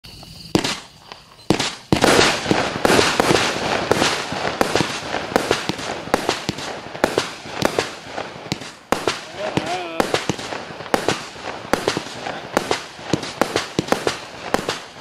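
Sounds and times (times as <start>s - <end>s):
firework crackling: 0.0s - 15.0s
firework launch pops: 0.1s - 15.0s.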